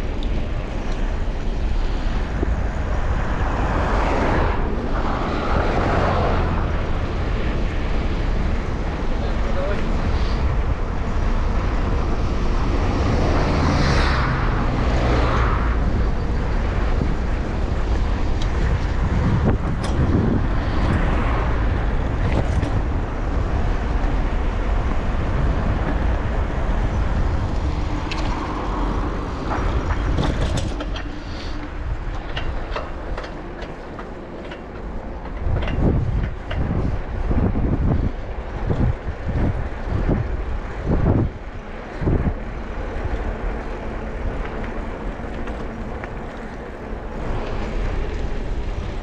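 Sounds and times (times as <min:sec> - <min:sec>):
road noise: 0:00.0 - 0:49.0
wind rumbling on microphone: 0:00.0 - 0:49.0.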